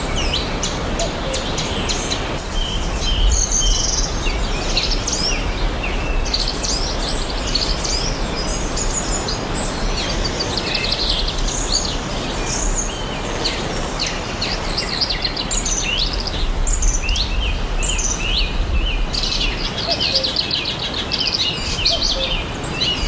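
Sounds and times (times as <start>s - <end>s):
birds chirping and singing: 0.0s - 23.0s
rushing background noise: 0.0s - 23.0s.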